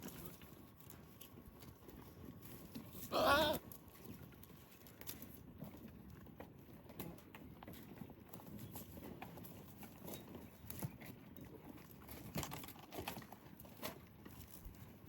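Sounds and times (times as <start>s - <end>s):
goats clicking and knocking: 0.0s - 15.0s.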